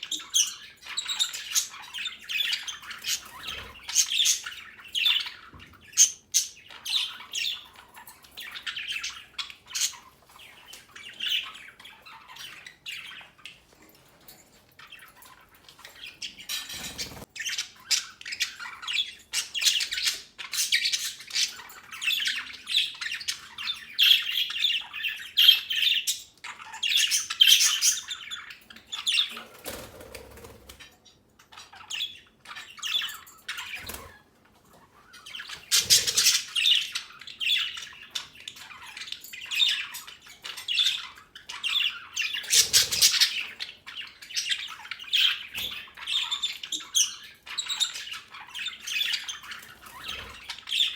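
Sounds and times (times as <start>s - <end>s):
budgerigars chirping: 0.0s - 14.0s, 14.8s - 50.9s.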